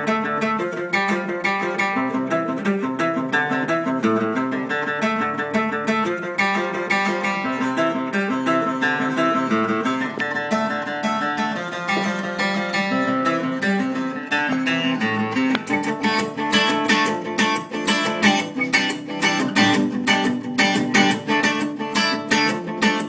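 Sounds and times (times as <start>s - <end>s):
acoustic guitar strummed and picked: 0.0s - 23.0s.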